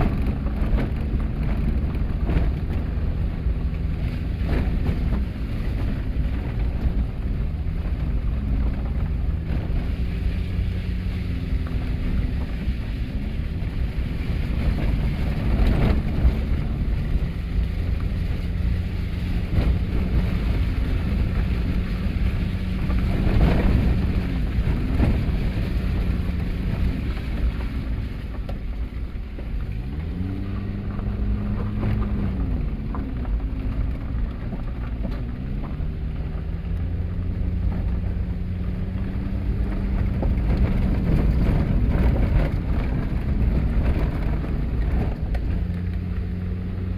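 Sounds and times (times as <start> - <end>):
car driving on unpaved road: 0.0 - 46.9.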